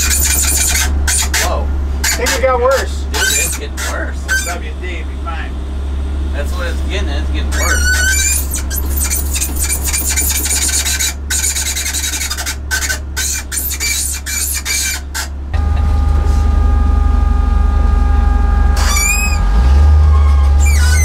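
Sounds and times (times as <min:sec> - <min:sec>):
steering column squeaking: 0:00.0 - 0:05.2, 0:06.7 - 0:16.3, 0:18.3 - 0:21.0.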